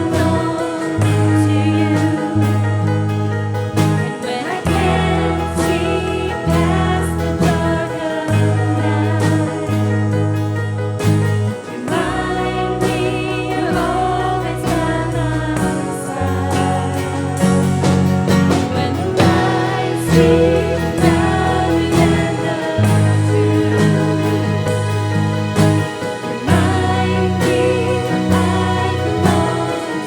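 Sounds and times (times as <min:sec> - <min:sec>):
instrumental accompaniment: 0:00.0 - 0:30.0
people singing: 0:00.0 - 0:30.0.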